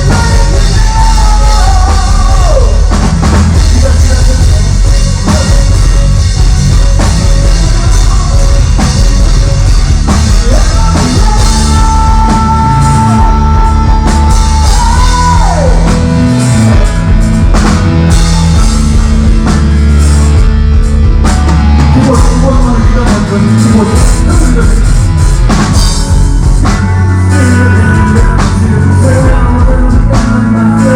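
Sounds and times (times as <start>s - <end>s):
loud rock music: 0.0s - 30.9s.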